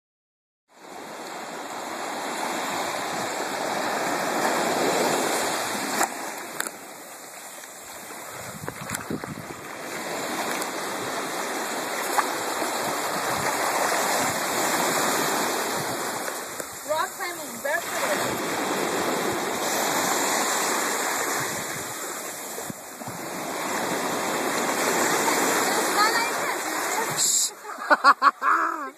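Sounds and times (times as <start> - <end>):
surf washing over rocks: 0.8 - 28.9.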